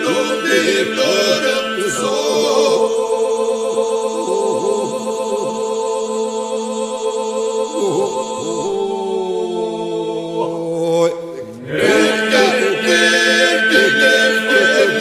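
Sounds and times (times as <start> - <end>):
male group singing a drone: 0.0 - 15.0
solo male voices singing melody: 0.0 - 15.0.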